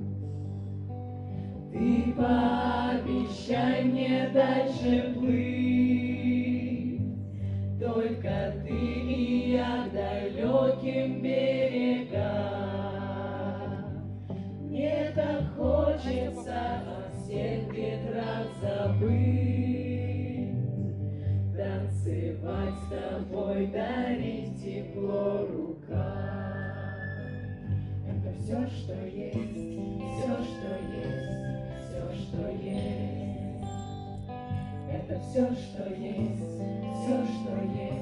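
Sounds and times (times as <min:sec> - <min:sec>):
group of people singing: 0:01.7 - 0:20.7, 0:21.5 - 0:33.8, 0:34.6 - 0:38.0.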